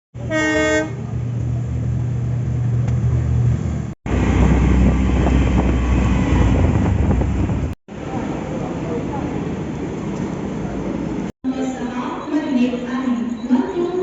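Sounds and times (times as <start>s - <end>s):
low train rumble: 0.2s - 14.0s
train engine hum: 0.2s - 14.0s.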